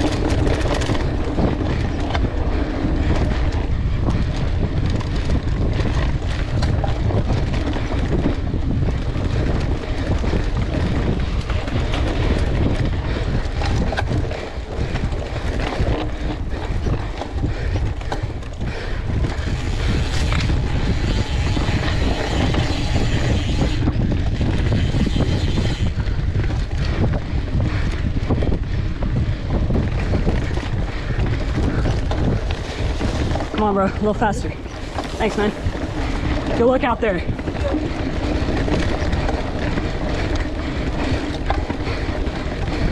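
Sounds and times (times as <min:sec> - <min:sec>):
bike rattles and clicks: 0:00.0 - 0:42.9
tyres running on dirt: 0:00.0 - 0:42.9
wind on microphone: 0:00.0 - 0:42.9.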